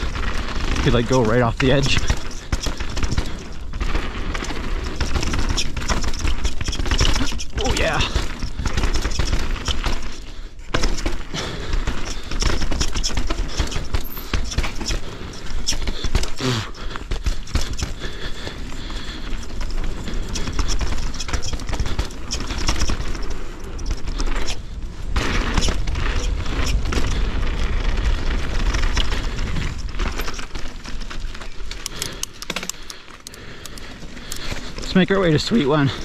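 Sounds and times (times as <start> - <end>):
mountain bike clattering over rocks: 0.0 - 36.0.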